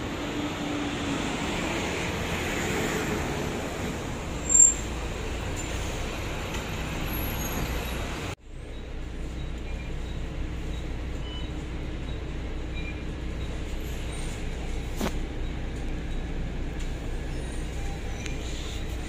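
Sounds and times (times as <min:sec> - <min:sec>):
bus engine hum: 0:00.0 - 0:19.0
road noise: 0:00.0 - 0:19.0.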